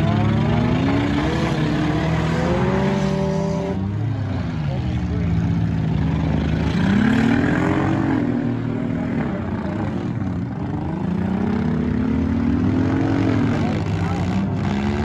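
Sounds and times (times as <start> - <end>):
car engine revving: 0.0 - 15.0
engines running: 0.0 - 15.0.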